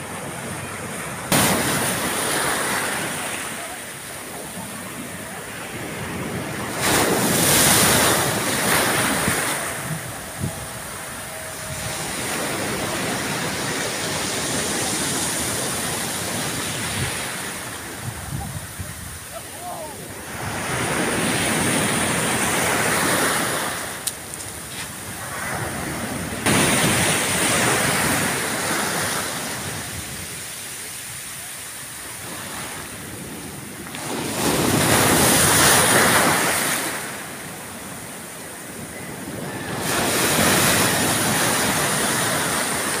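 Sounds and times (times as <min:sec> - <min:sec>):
sea surf breaking: 0:00.0 - 0:43.0.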